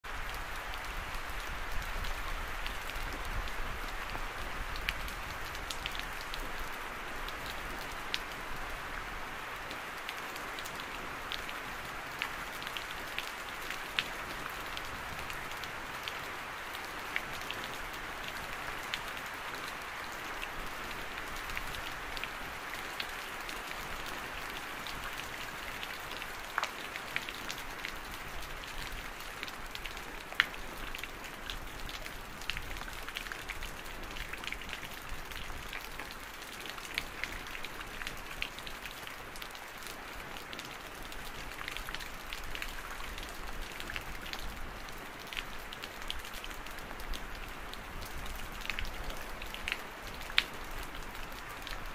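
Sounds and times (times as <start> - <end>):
steady rainfall: 0.0 - 51.9.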